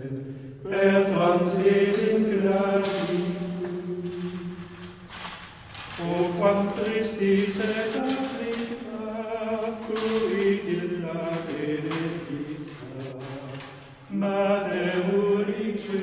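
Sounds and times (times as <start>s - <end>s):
choir chanting: 0.0s - 5.1s, 6.0s - 16.0s.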